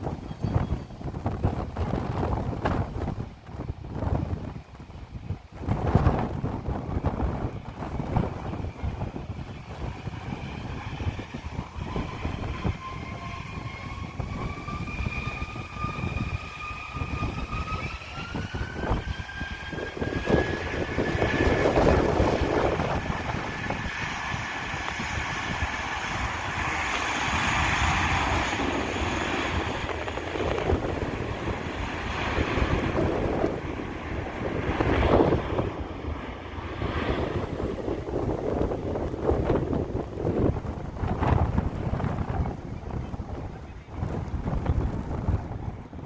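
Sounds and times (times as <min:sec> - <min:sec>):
wind rumble on microphone: 0:00.0 - 0:46.0
jet engines spooling up: 0:05.6 - 0:45.8.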